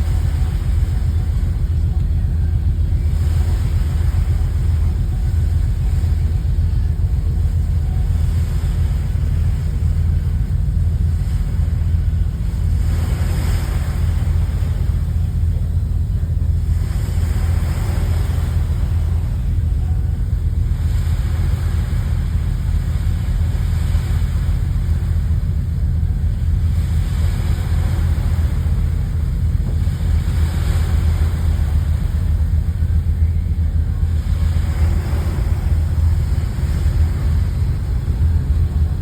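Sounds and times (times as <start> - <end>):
ferry engines rumbling: 0.0 - 39.0.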